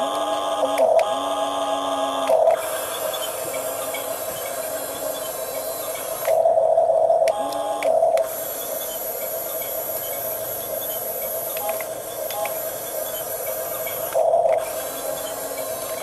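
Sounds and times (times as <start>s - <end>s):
toy electric motors whining: 0.0s - 16.0s.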